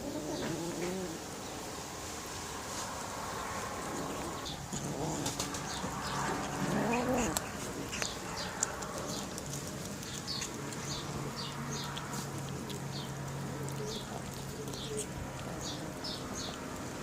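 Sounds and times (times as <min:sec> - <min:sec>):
cats growling and yowling: 0:00.0 - 0:01.3, 0:03.7 - 0:17.0.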